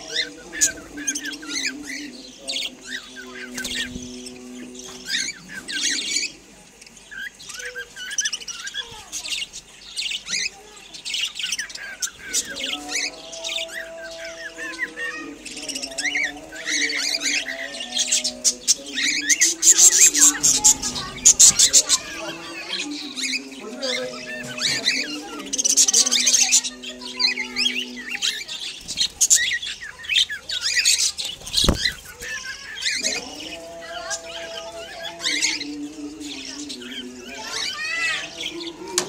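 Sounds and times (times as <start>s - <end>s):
budgerigars chirping and squawking: 0.0s - 39.0s.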